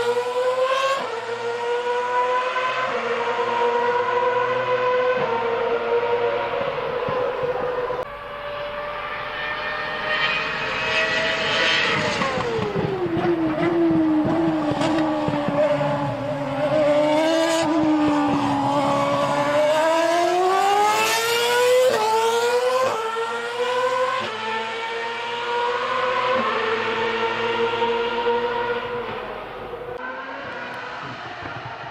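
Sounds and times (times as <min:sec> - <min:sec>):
racing car engine: 0:00.0 - 0:31.9.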